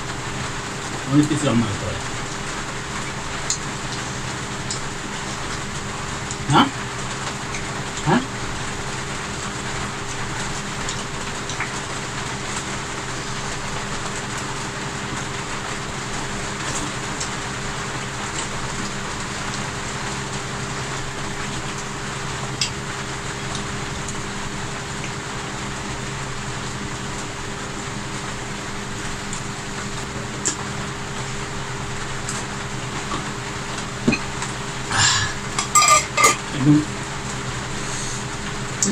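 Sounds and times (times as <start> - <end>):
room noise hiss: 0.0 - 38.9.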